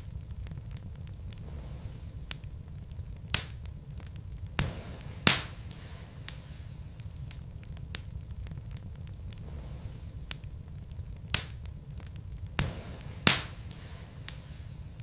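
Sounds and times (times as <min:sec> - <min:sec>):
logs crackling and popping: 0:00.0 - 0:15.0
low rumble of fire: 0:00.0 - 0:15.0.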